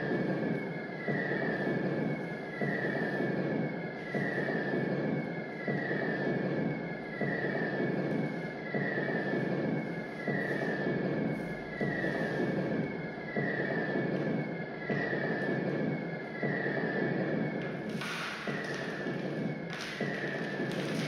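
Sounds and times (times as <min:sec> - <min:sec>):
rushing rumbling electronic noise: 0:00.0 - 0:21.0.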